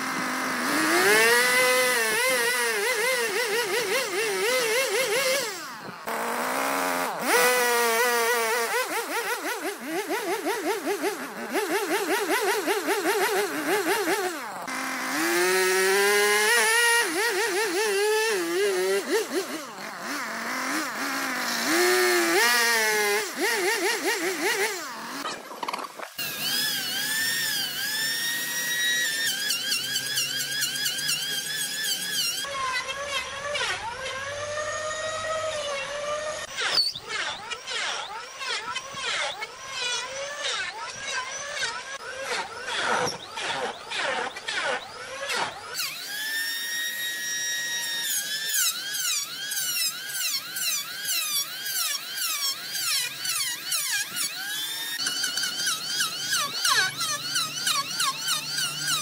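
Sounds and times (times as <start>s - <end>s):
chainsaw revving and cutting wood: 0.0s - 59.0s
electric hand planer whining: 0.0s - 59.0s.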